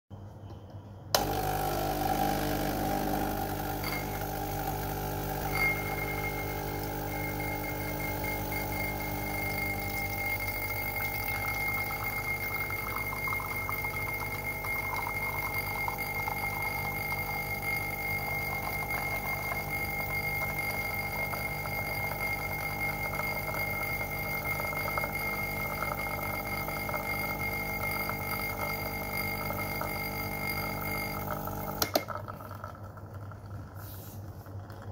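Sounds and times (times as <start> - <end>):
espresso pump buzzing: 1.1 - 34.9.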